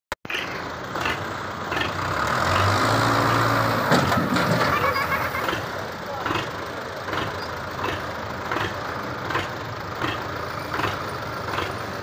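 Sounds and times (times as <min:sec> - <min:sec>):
tractor engine labouring: 0:00.2 - 0:12.0.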